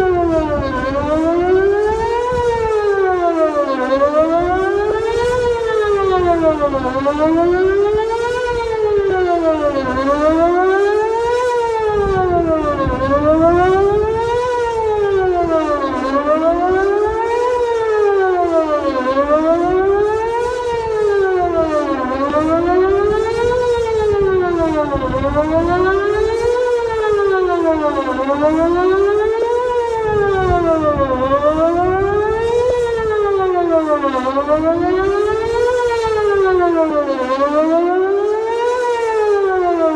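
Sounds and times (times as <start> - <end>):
warning siren sweeping up and down: 0.0 - 39.9.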